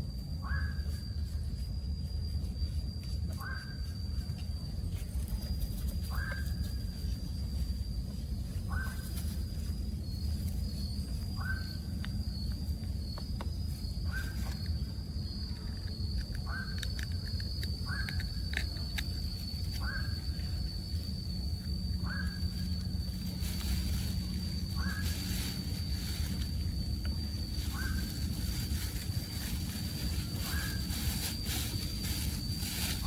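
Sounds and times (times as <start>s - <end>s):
constant high whine: 0.0s - 33.0s
steady low rumble: 0.0s - 33.0s.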